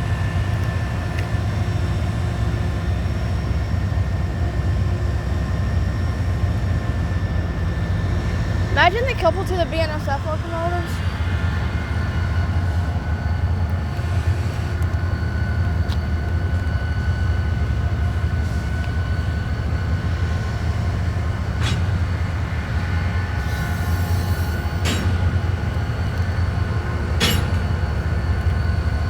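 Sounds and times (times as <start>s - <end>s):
diesel locomotives rumbling: 0.0s - 29.0s.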